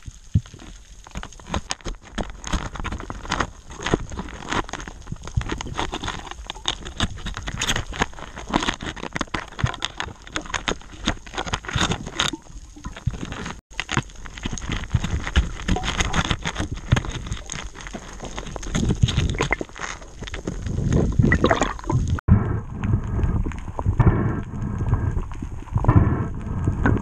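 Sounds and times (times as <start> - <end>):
underwater clicks and knocks: 0.3 - 27.0.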